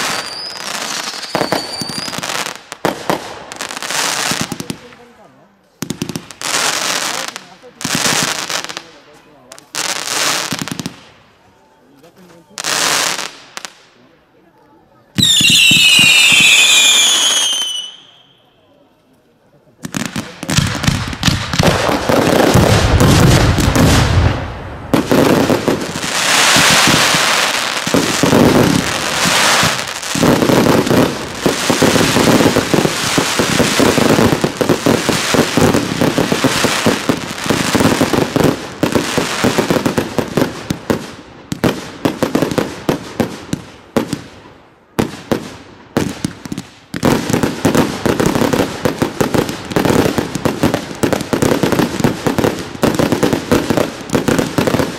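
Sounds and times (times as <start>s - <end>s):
fireworks bangs and crackling: 0.0s - 19.0s, 19.6s - 54.9s.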